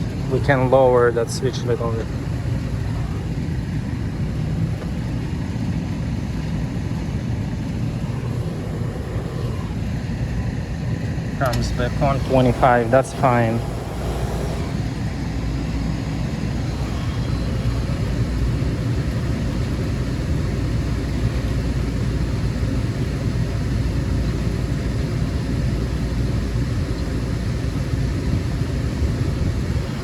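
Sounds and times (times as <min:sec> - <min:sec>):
refrigeration unit humming: 0:00.0 - 0:30.0.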